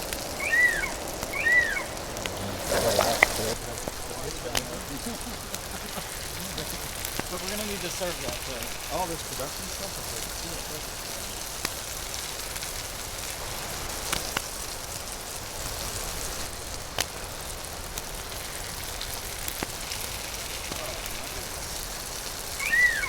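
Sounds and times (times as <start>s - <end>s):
burning wood popping and crackling: 0.0s - 23.0s
meat sizzling on a grill: 0.0s - 23.0s.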